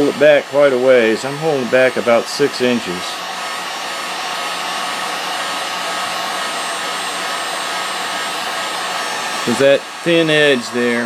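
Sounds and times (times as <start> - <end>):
heat gun blowing air: 0.0 - 11.0.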